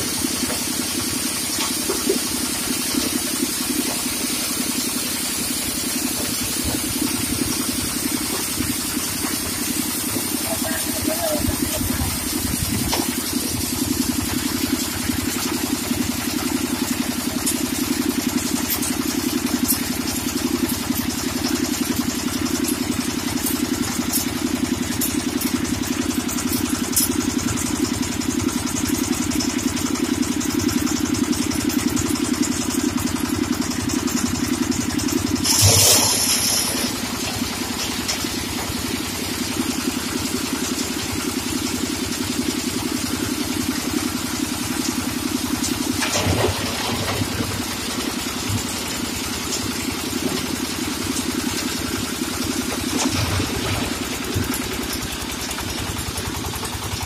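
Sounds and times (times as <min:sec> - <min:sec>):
coal crusher engine throbbing: 0:00.0 - 0:57.0.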